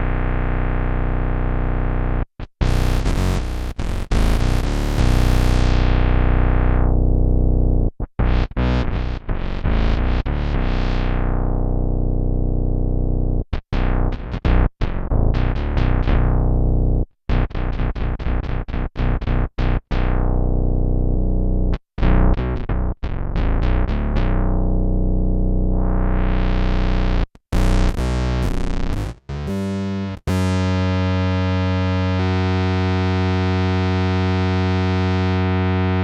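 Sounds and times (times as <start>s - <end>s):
synth-like electric bass: 0.0s - 36.0s.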